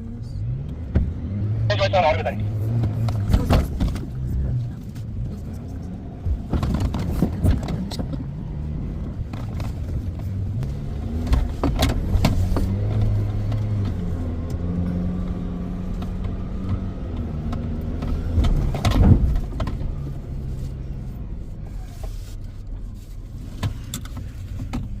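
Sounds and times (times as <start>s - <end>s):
off-road vehicle engine revving: 0.0s - 21.9s.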